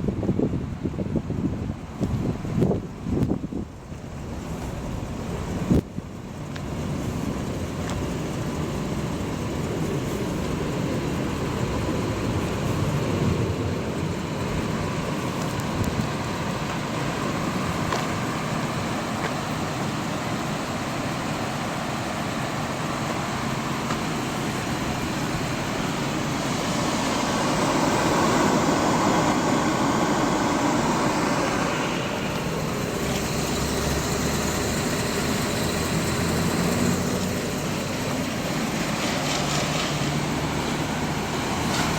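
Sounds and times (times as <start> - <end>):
motor vehicle running: 1.9 - 41.9.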